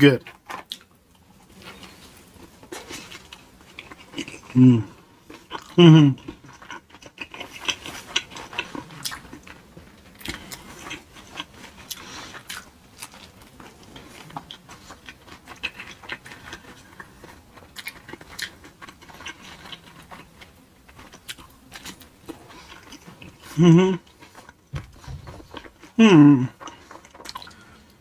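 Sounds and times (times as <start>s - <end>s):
person chewing crunchy food: 0.2s - 28.0s.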